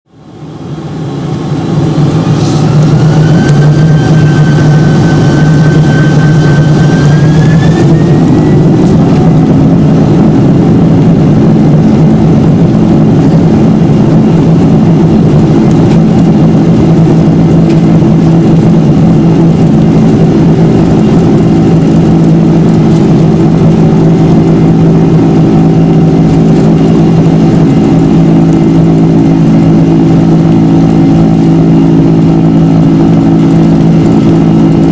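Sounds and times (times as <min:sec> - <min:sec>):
jet engine whine: 0:00.1 - 0:34.9
jet engines roaring: 0:00.2 - 0:34.9.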